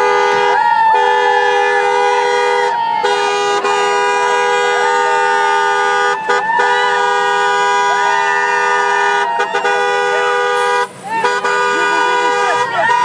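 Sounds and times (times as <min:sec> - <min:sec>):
car horns blaring: 0:00.0 - 0:13.0
voices calling: 0:00.4 - 0:13.0.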